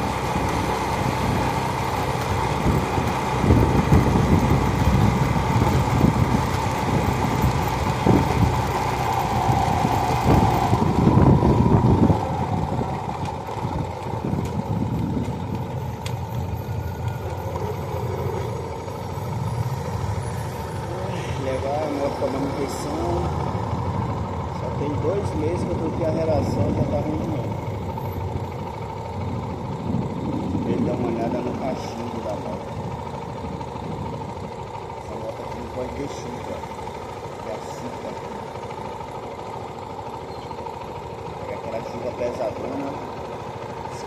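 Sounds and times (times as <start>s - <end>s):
motorcycle engine running: 0.0s - 44.0s
road noise: 0.0s - 44.0s.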